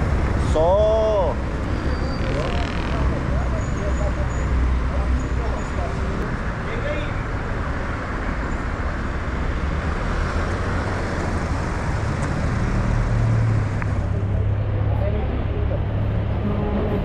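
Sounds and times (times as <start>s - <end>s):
heavy vehicle engine drone: 0.0s - 17.0s
passing vehicles and tyre noise: 0.0s - 17.0s.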